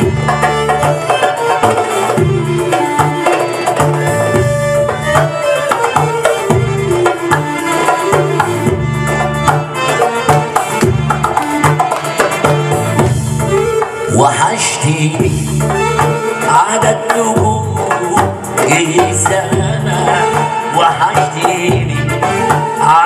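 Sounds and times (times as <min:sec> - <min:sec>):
hand drum rhythm: 0:00.0 - 0:14.2, 0:15.0 - 0:23.0
accordion: 0:00.0 - 0:23.0
keyboard melody: 0:00.0 - 0:23.0.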